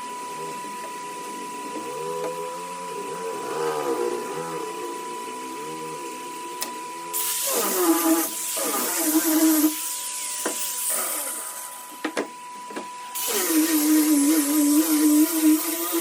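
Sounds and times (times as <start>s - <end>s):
orbital sander on wood: 0.1s - 16.0s.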